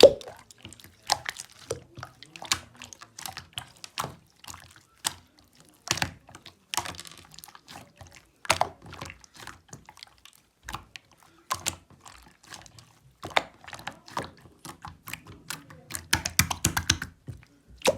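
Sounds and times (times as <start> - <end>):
slime squishing by hand: 0.0 - 17.9.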